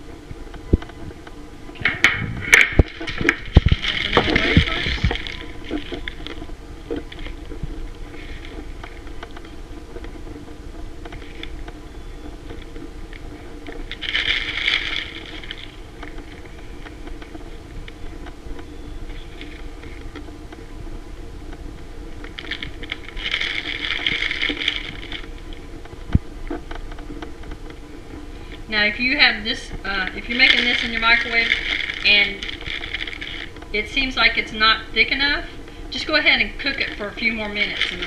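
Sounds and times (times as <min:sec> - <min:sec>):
crinkly rustling: 0:00.0 - 0:38.0
steady low hum: 0:00.0 - 0:38.0.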